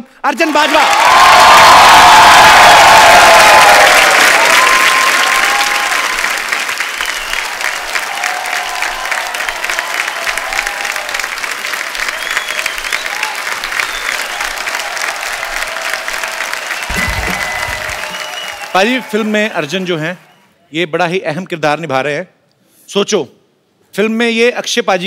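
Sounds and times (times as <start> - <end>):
audience applauding: 0.3 - 20.4.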